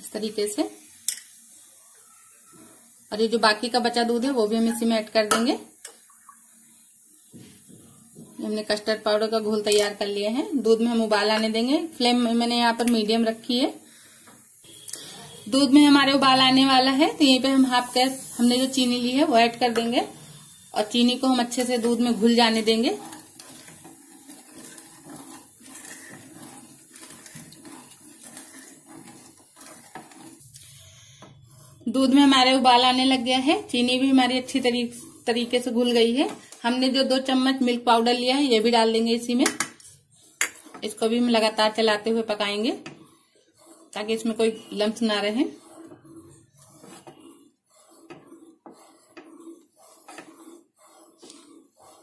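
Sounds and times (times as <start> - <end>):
spatula scraping a pan: 0.8 - 52.0
milk swishing: 10.0 - 52.0.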